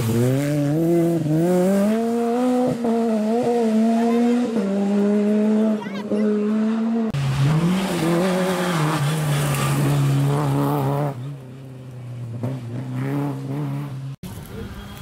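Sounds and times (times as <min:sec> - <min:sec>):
rally car engine shifting gears: 0:00.0 - 0:14.1.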